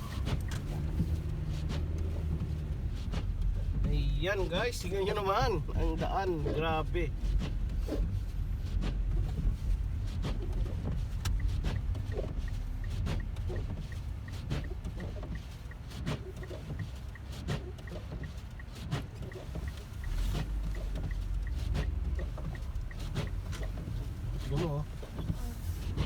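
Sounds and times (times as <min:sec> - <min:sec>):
road and engine rumble: 0:00.0 - 0:26.0.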